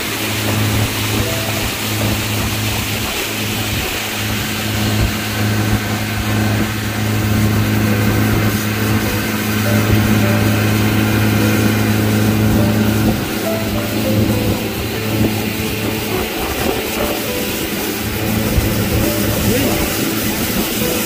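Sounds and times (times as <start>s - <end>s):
boat motor humming: 0.0s - 21.0s
water rushing: 0.0s - 21.0s
wind: 0.0s - 21.0s.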